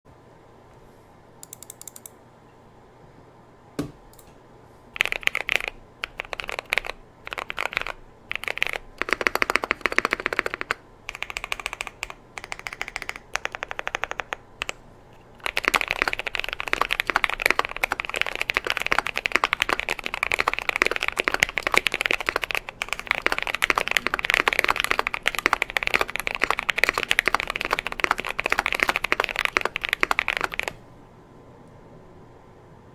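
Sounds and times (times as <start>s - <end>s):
mechanical keyboard typing: 1.4s - 2.1s, 5.0s - 30.8s.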